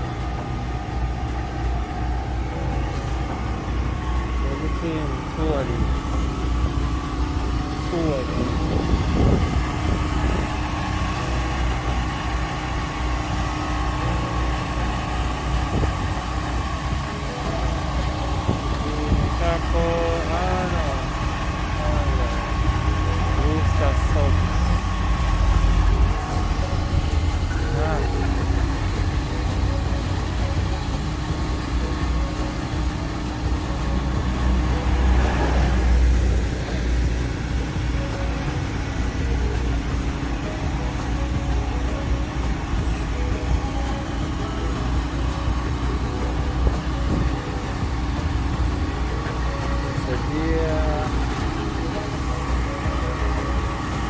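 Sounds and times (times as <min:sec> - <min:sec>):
engines idling: 0:00.0 - 0:54.0.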